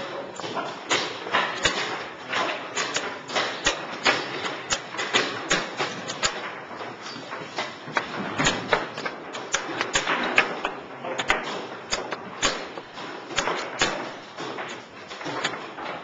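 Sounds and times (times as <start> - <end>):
low room murmur: 0.0 - 16.0
chess pieces clicking on board: 0.9 - 16.0.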